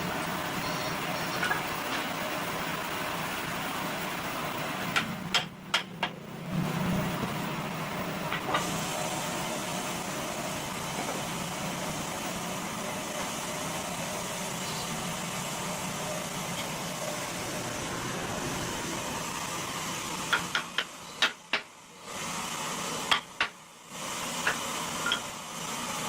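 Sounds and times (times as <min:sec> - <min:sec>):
woodworking machinery humming: 0:00.0 - 0:26.0.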